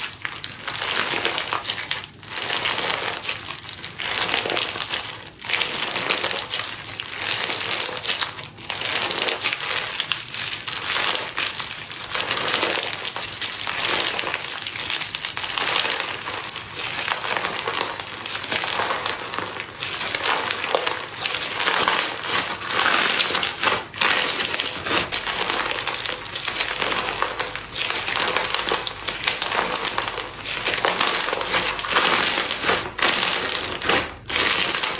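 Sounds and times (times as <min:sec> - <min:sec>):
slime crackling and popping: 0:00.0 - 0:34.9.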